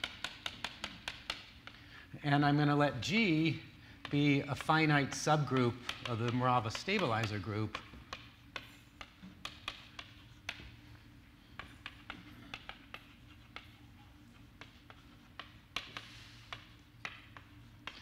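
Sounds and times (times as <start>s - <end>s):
chalk clicking on blackboard: 0.0s - 1.9s, 4.0s - 18.0s
low steady hum: 0.0s - 18.0s.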